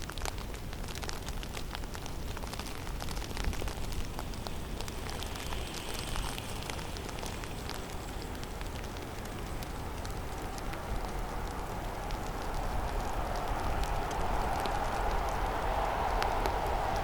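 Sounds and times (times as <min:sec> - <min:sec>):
falling snow ticking on surfaces: 0:00.0 - 0:17.0
snowstorm hiss: 0:01.2 - 0:17.0.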